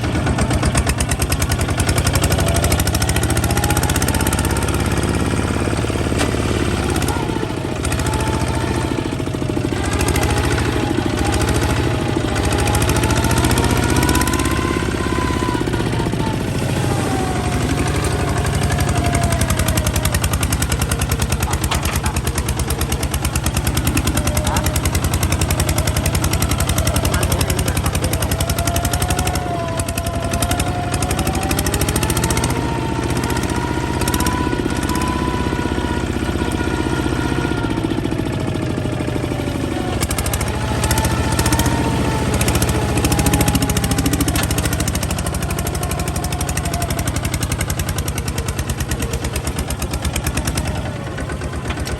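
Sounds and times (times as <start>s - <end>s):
diesel engine chugging: 0.0s - 51.9s.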